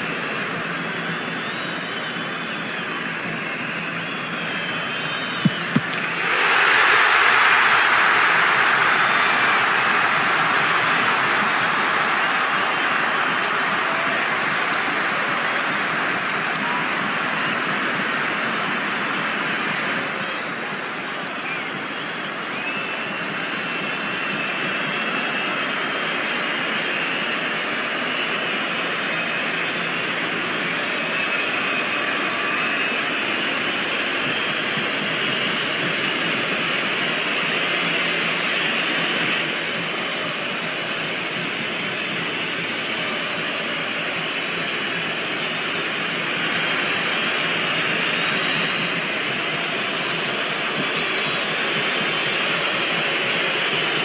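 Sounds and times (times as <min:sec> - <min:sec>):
stadium crowd roaring: 0:00.0 - 0:54.0.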